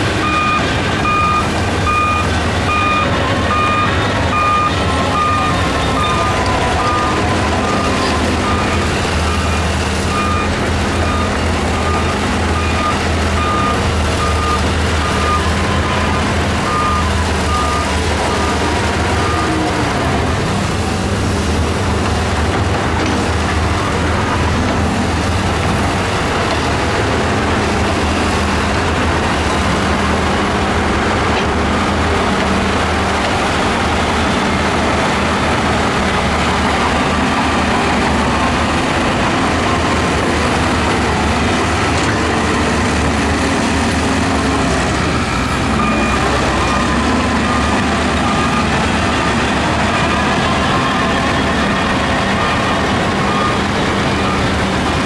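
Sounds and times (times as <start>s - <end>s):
bulldozer diesel engine running: 0.0s - 55.0s
heavy earthmoving machines working: 0.0s - 55.0s.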